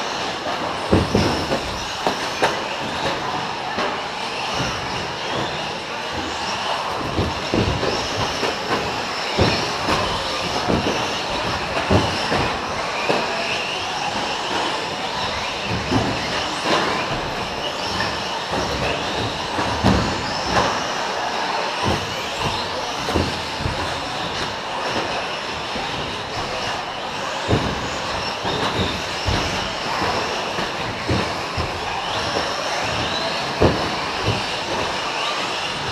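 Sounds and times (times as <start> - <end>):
rc trucks motor whine: 0.0 - 35.9
thumps from jumps and landings: 4.5 - 21.0, 21.8 - 35.9.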